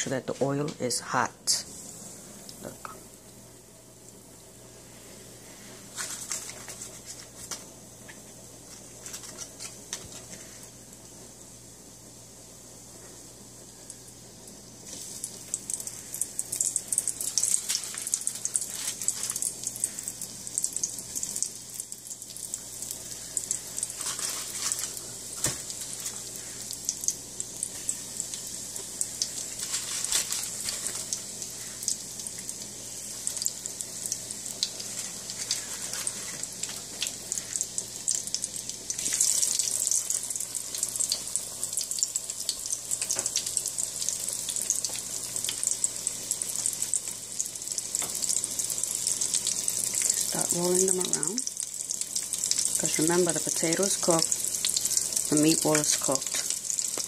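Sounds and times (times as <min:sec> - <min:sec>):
deep-frying sizzle with pops: 0:00.0 - 0:57.0.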